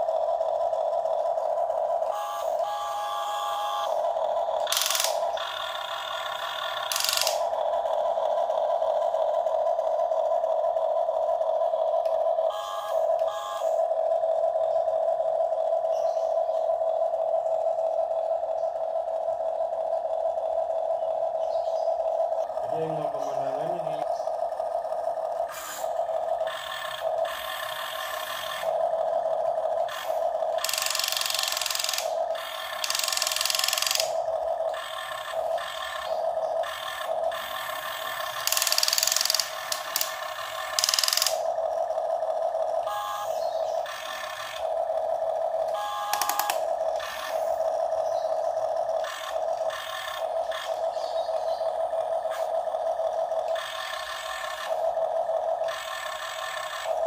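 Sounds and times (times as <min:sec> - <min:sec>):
small electric motors whining: 0:00.0 - 0:57.0.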